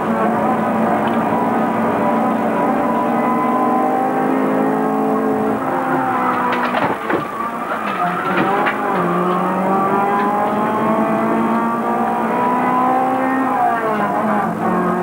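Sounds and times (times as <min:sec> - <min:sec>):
car engine revving: 0:00.0 - 0:15.0
gear change: 0:00.4 - 0:14.5.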